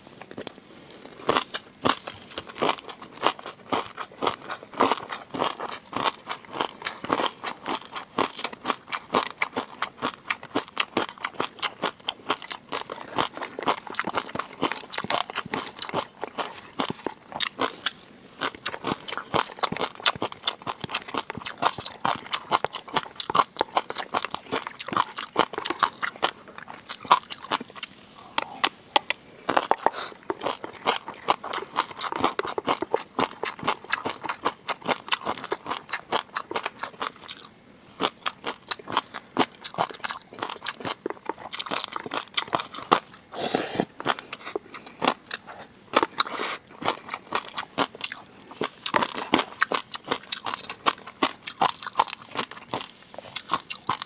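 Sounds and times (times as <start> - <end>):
chewing and biting: 0.2 - 54.0.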